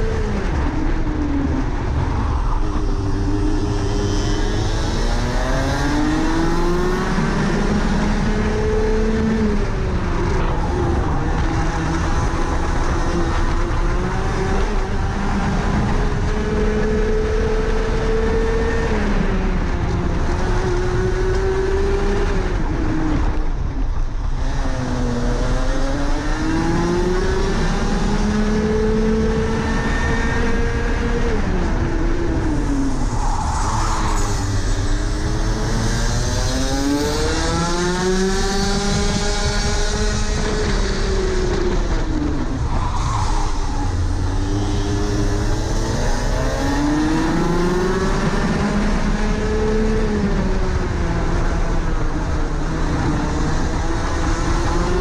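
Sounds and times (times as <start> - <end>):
kart engine at racing speed: 0.0 - 55.0.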